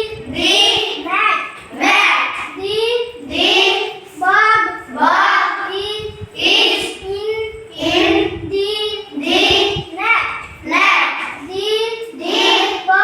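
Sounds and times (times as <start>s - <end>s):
child chanting letter sounds: 0.0s - 13.0s.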